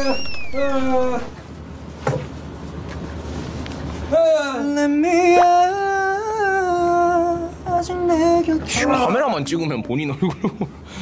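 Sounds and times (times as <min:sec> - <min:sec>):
room noise hum: 0:00.0 - 0:11.0.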